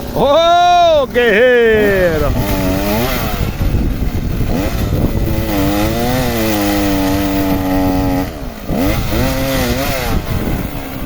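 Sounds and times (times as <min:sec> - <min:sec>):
chainsaw cutting wood: 0:01.0 - 0:11.0.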